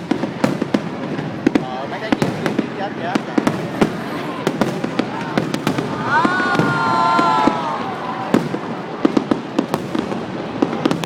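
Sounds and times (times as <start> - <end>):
firework bangs and crackles: 0.0 - 11.0.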